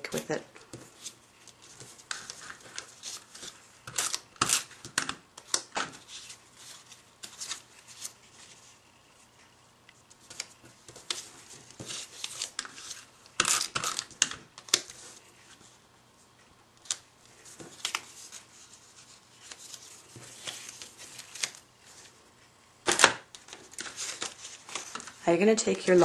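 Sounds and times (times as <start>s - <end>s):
paper and card rustling: 0.0s - 9.6s, 10.2s - 15.8s, 16.8s - 22.2s, 22.9s - 25.2s.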